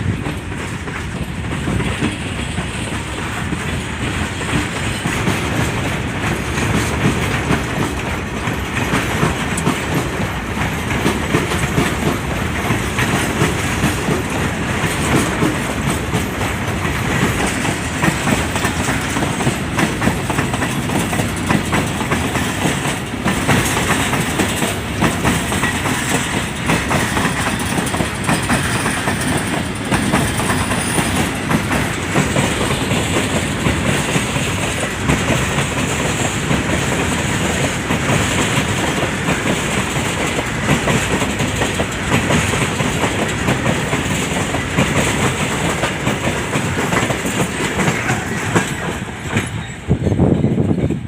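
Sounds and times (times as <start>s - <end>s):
train wheels clattering over joints: 0.0s - 51.0s.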